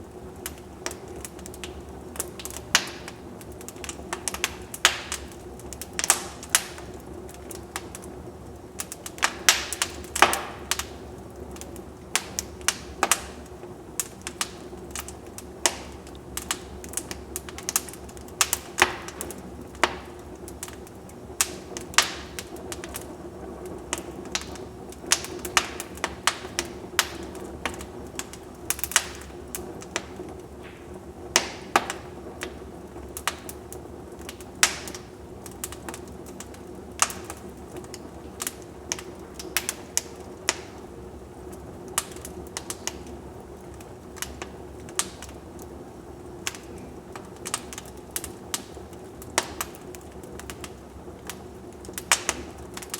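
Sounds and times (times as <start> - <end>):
wood fire crackling and popping: 0.0 - 52.9.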